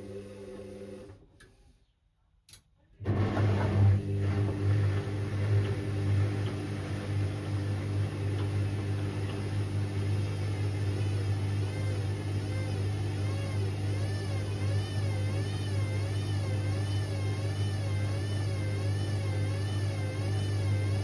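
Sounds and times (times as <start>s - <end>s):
washing machine humming: 0.0s - 1.3s, 3.0s - 21.0s.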